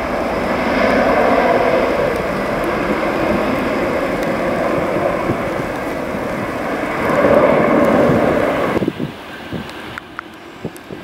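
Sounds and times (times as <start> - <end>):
jet engines roaring at takeoff: 0.0 - 11.0.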